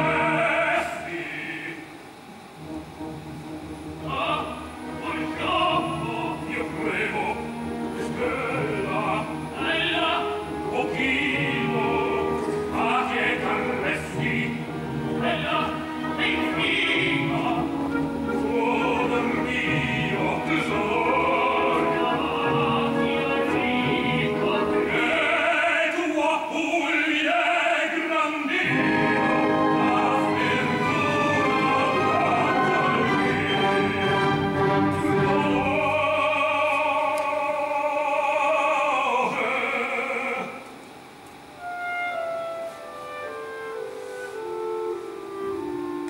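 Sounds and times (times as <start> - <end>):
operatic male duet singing: 0.0 - 1.9, 4.0 - 40.7
orchestral accompaniment: 0.0 - 26.4, 28.5 - 39.4, 40.9 - 46.0.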